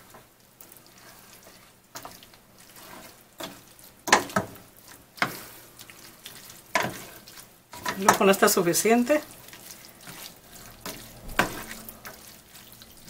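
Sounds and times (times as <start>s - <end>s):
wet squelching of pasta stirring: 0.0s - 13.0s
spoon scraping a pan: 0.9s - 13.0s.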